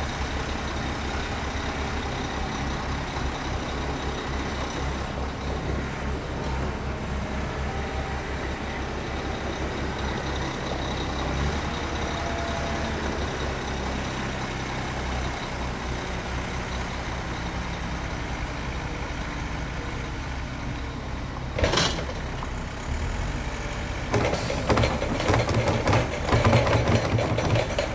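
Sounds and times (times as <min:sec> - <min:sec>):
diesel engines running: 0:00.0 - 0:27.9.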